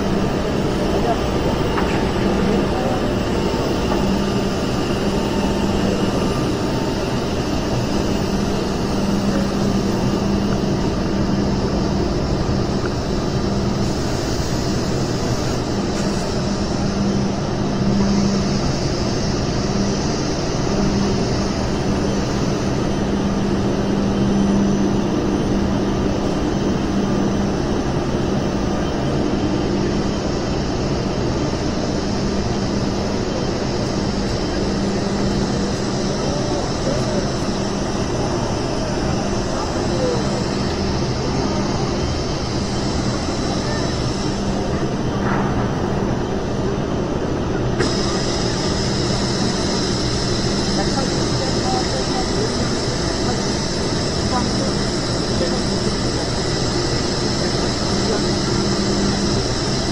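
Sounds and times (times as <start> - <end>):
exhibition hall ambience: 0.0 - 59.9.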